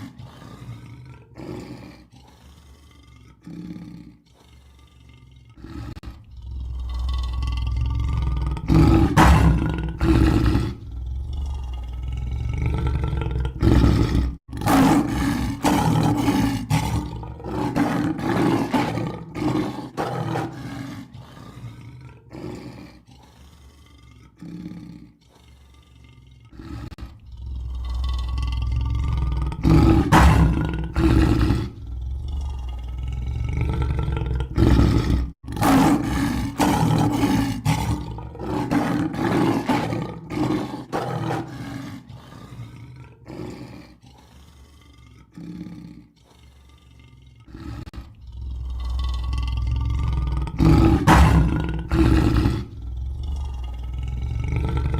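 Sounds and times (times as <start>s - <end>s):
lion roaring: 0.0s - 54.9s.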